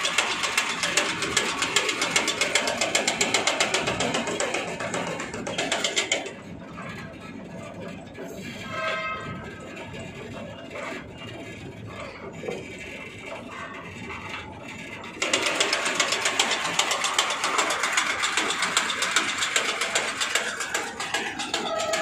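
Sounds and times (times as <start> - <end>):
machine mechanical clatter: 0.0 - 22.0.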